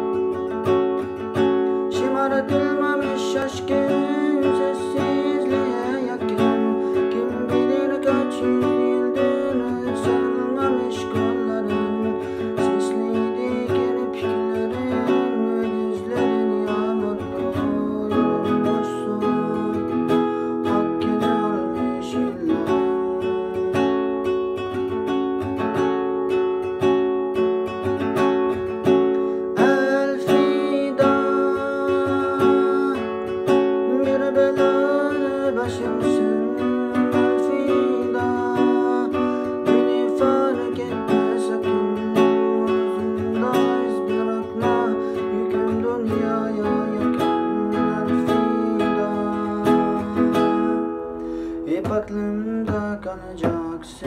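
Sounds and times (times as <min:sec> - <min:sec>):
classical guitar solo: 0:00.0 - 0:54.0.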